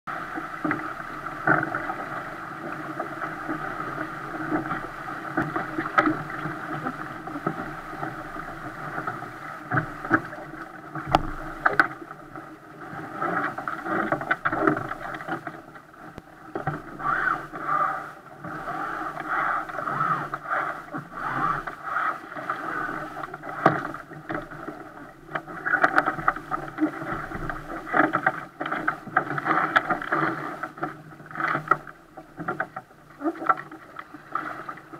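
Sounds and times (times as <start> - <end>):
water rushing and splashing: 0.1 - 34.9
waves slapping the hull: 0.1 - 34.9.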